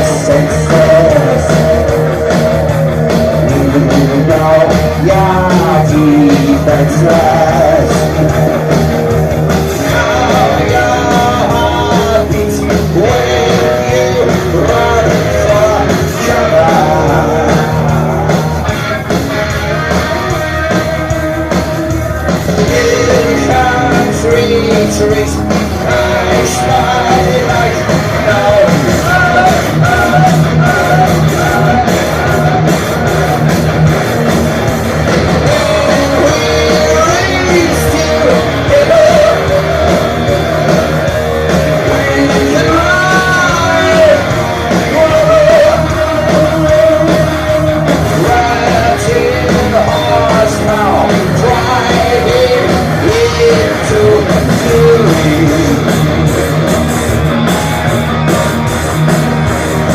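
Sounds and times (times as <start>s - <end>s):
heavy metal band playing: 0.0s - 59.9s
high yelled singing: 0.0s - 59.9s.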